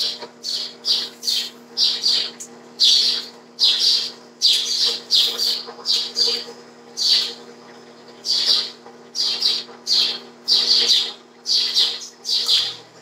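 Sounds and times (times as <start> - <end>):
bird chirping: 0.0 - 7.4, 8.2 - 12.9.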